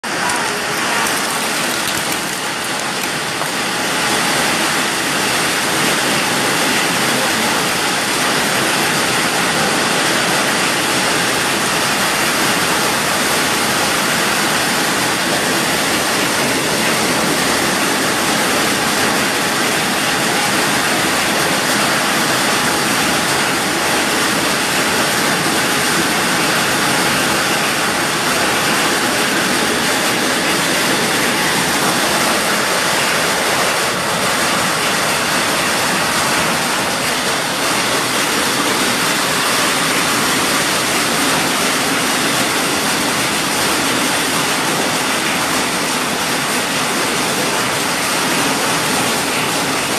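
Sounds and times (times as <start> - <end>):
heavy rain and hail: 0.0 - 49.9.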